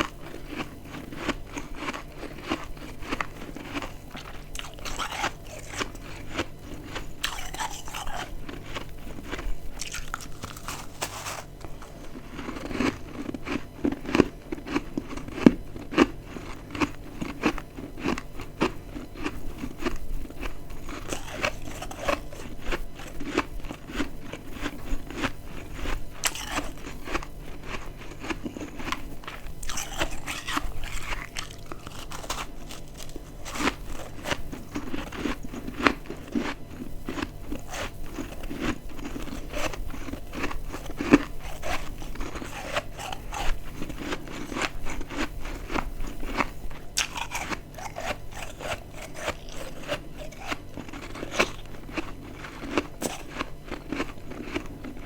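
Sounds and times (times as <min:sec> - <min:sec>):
crunching frost chunks: 0:00.0 - 0:14.8, 0:20.8 - 0:24.4, 0:26.2 - 0:55.0.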